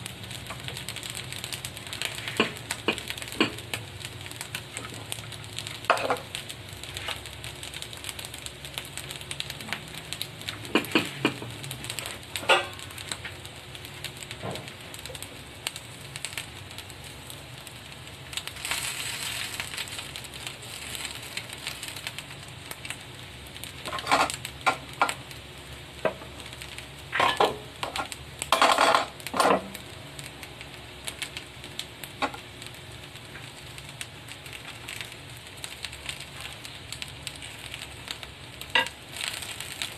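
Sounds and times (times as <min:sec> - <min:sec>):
food sizzling on hot plate: 0:00.0 - 0:39.9.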